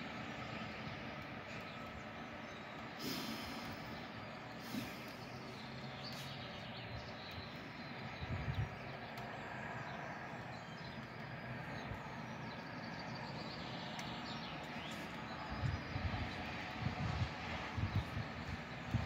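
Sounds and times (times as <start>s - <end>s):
distant traffic hum: 0.0s - 19.0s
faint birdsong: 0.0s - 19.0s.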